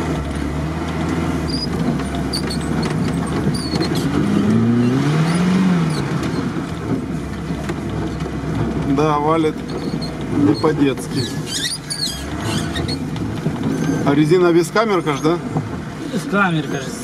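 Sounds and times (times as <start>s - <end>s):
car engine pulling hard: 0.0s - 17.0s.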